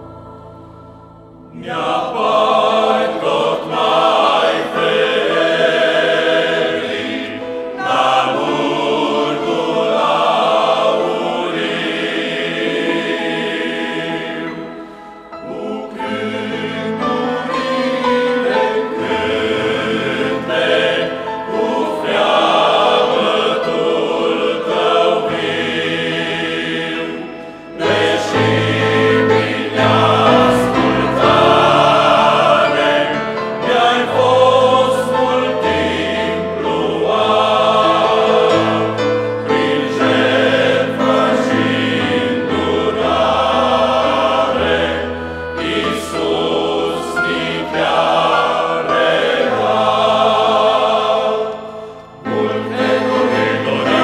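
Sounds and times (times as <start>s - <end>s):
digital piano: 0.0s - 54.0s
men's choir singing a hymn: 0.0s - 54.0s.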